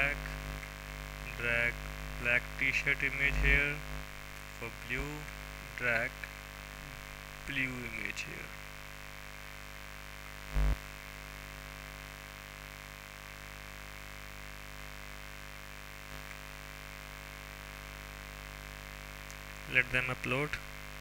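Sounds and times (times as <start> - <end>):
mains hum and hiss: 0.0 - 21.0.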